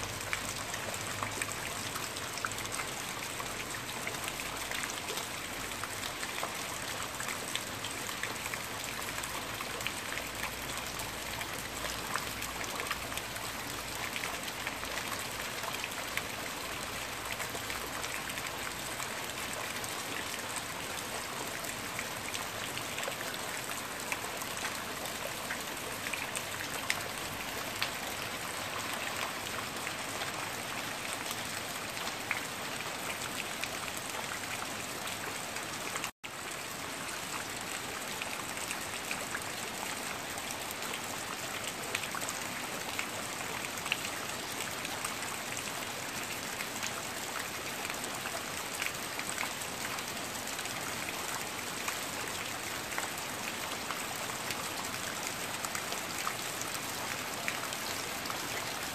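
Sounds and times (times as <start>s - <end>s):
rain falling on foliage: 0.0s - 58.9s.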